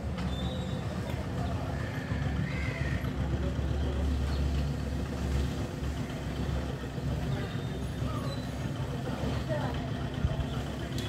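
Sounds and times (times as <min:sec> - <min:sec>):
low engine rumble: 0:00.0 - 0:11.0
street noise: 0:00.0 - 0:11.0.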